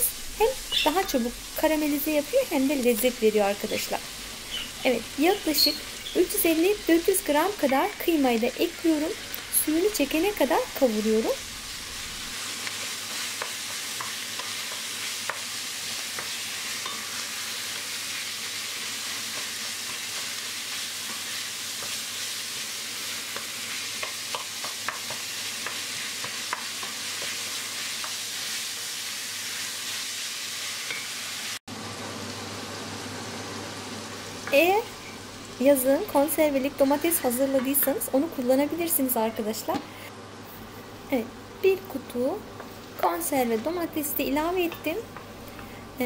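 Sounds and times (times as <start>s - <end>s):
meat and onions sizzling in a pot: 0.0s - 46.0s.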